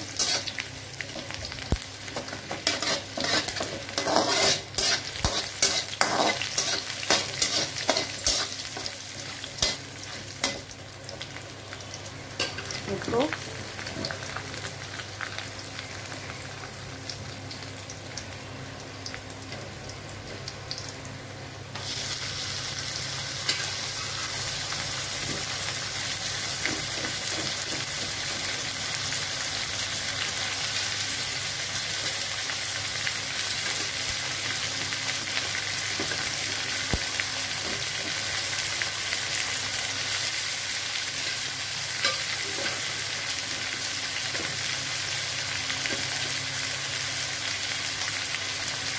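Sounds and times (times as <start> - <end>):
hot oil sizzling in a wok: 0.0 - 48.9.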